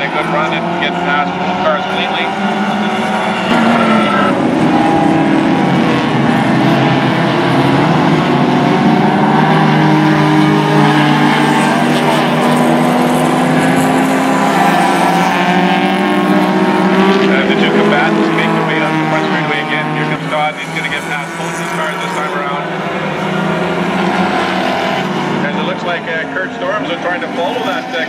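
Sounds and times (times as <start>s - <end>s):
racing car engine: 0.0s - 28.0s.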